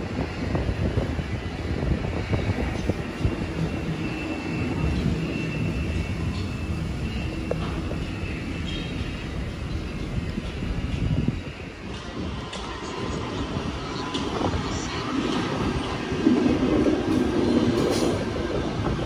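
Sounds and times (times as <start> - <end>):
electric train pulling away: 0.0 - 19.0.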